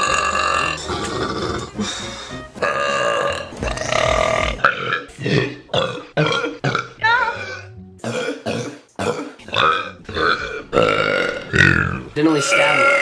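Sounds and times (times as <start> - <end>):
woman belching: 0.0 - 1.8, 2.6 - 13.0.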